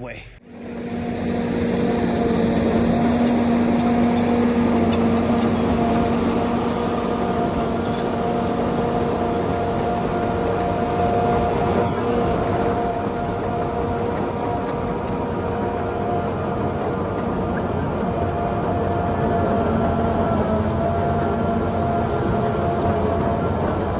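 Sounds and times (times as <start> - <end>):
diesel engine running: 0.4 - 23.9.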